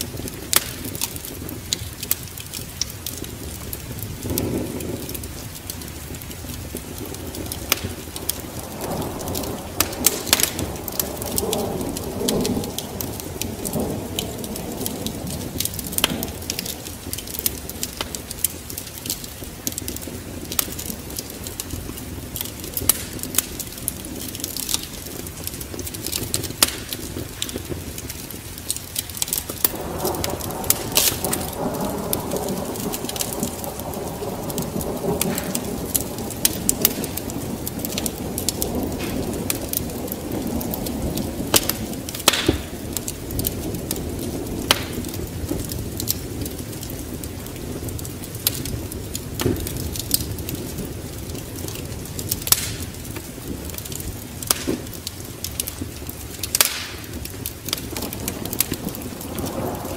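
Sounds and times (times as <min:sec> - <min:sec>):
rain: 0:00.0 - 0:59.9
thunder rumble: 0:00.0 - 0:59.9
wood fire crackling: 0:00.0 - 0:59.9.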